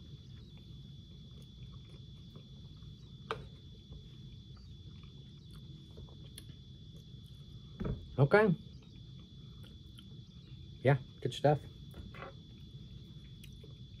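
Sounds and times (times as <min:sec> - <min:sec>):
high-pitched whine: 0:00.0 - 0:14.0
low background hum: 0:00.0 - 0:14.0.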